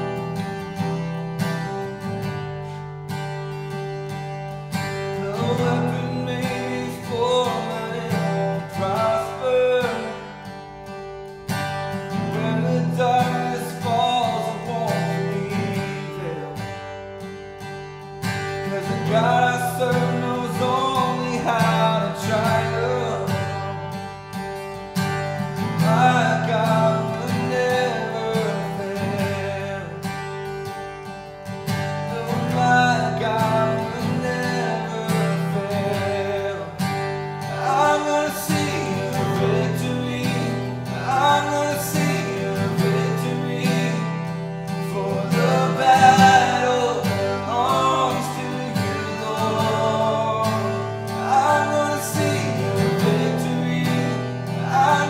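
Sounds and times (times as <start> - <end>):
man singing: 0.0 - 0.8, 4.8 - 10.5, 12.1 - 17.0, 18.5 - 24.0, 25.6 - 30.6, 31.8 - 55.0
acoustic guitar strumming: 0.0 - 55.0.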